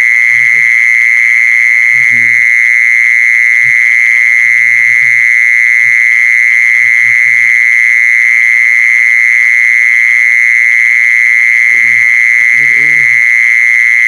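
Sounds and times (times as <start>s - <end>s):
insect high-pitched trill: 0.0s - 14.0s.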